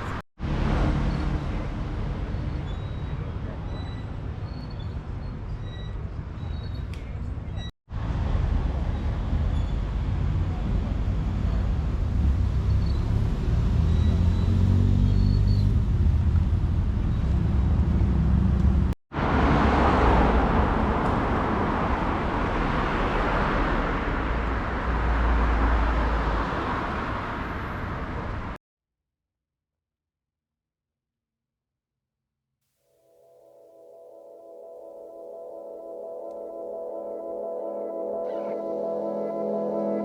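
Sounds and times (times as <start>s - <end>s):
traffic noise: 0.0s - 28.6s, 33.8s - 40.0s.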